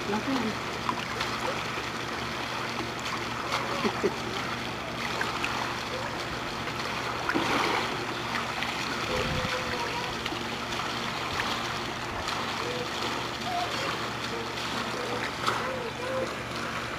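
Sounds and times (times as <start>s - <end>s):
pool water trickling and lapping: 0.0s - 16.9s.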